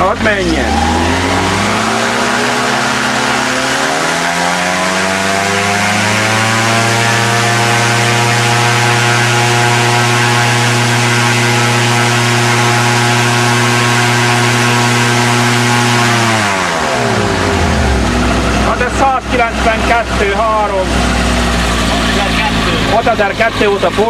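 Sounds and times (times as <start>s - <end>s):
engine driving a propeller: 0.0s - 24.0s.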